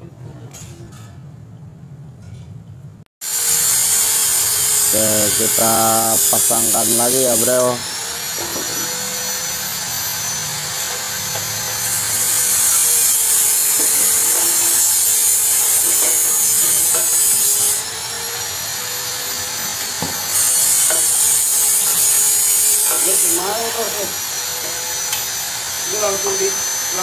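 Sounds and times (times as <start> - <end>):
gas welding torch hissing: 3.2 - 27.0.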